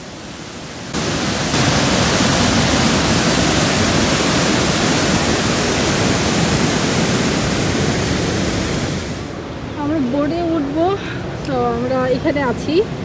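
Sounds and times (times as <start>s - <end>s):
waterfall roaring: 0.0s - 11.1s.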